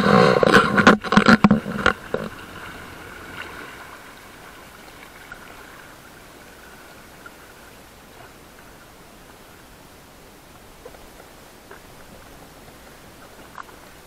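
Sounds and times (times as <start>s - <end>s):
water and wind hiss: 0.0s - 14.0s.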